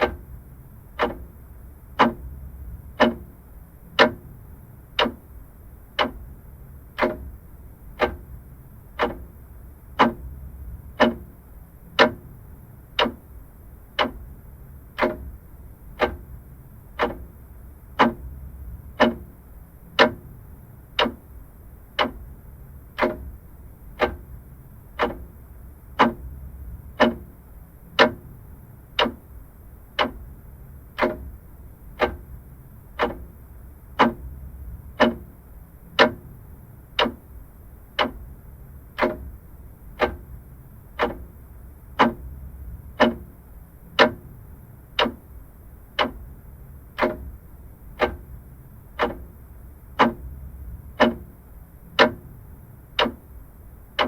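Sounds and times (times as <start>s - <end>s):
faint low hum: 0.0s - 54.0s
mechanical clock ticking: 0.0s - 54.0s.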